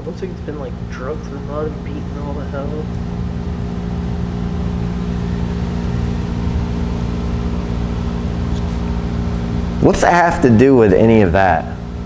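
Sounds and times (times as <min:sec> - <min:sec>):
held low tones: 0:00.0 - 0:12.0
low mechanical hum: 0:00.0 - 0:12.0.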